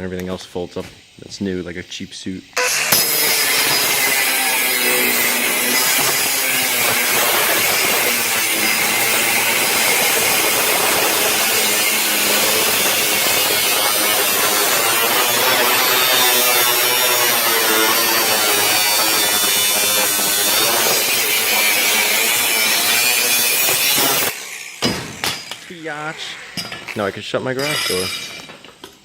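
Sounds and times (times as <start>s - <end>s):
angle grinder cutting: 2.6s - 28.5s.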